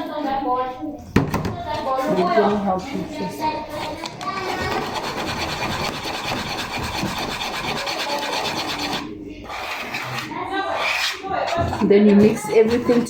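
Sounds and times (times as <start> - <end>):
utensil scraping mixing bowl: 0.6 - 13.0.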